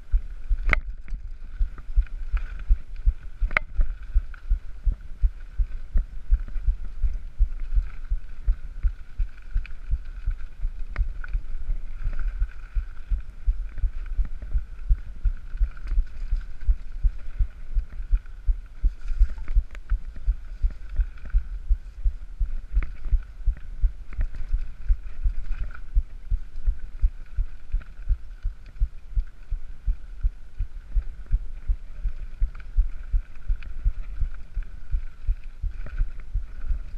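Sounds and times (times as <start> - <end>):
faint steady hiss: 0.0 - 36.9.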